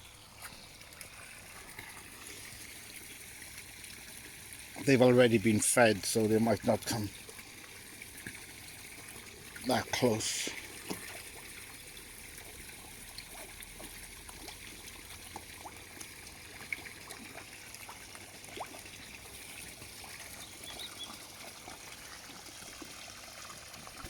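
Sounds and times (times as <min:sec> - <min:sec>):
pond water trickling: 0:00.0 - 0:24.0
water drips and splashes: 0:00.0 - 0:24.0.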